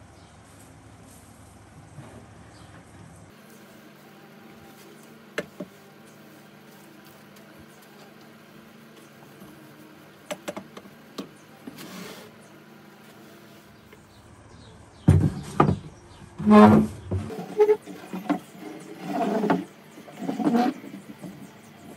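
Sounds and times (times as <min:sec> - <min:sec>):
machine hum: 0:00.0 - 0:21.9.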